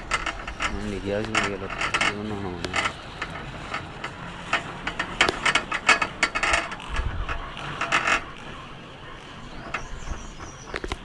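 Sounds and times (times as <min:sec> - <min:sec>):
chairlift chair clicking and rattling: 0:00.0 - 0:11.0.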